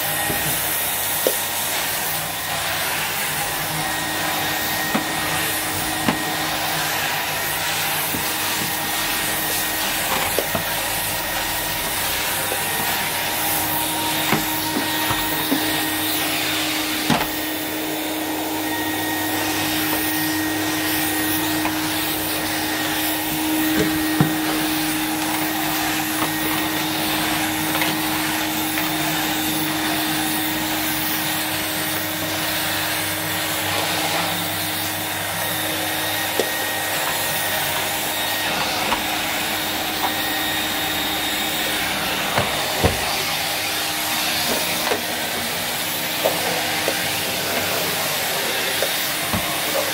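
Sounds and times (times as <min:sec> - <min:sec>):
vacuum cleaner motor hum: 0:00.0 - 0:49.9.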